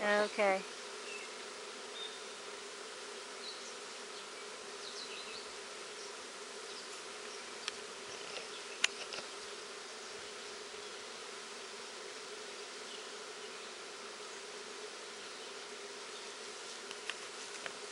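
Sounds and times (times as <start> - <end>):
bee swarm buzzing: 0.0 - 17.9.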